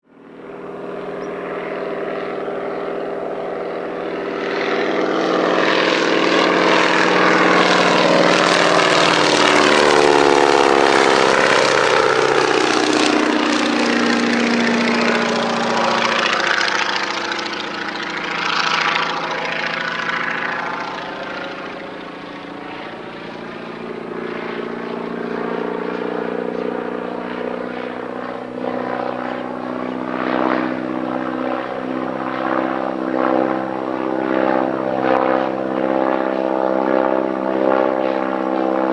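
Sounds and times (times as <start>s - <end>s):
biplane engine flyby: 0.0s - 38.9s.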